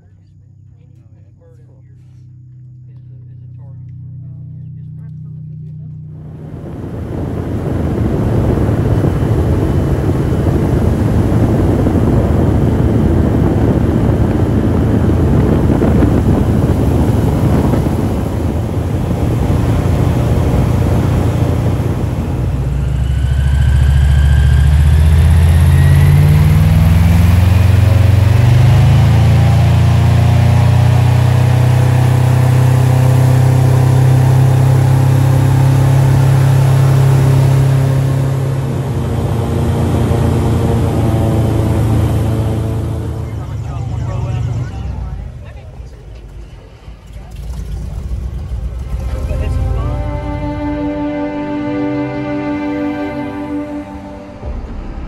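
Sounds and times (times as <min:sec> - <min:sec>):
airboat engine and propeller: 0:00.0 - 0:55.0.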